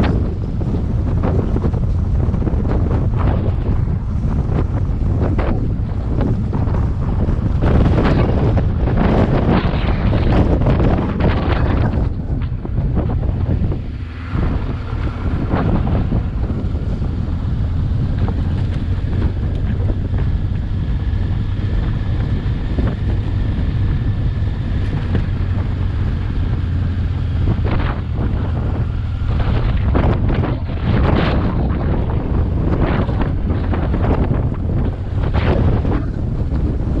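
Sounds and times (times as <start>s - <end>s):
motorcycle engine running: 0.0s - 37.0s
wind buffeting microphone: 0.0s - 37.0s.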